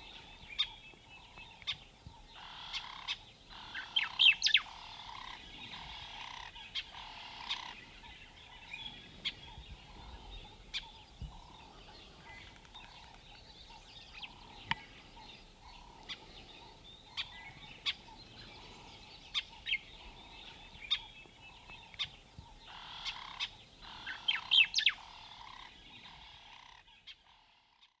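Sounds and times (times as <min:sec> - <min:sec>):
bird chirps: 0:00.0 - 0:28.0
birds twittering: 0:00.0 - 0:28.0.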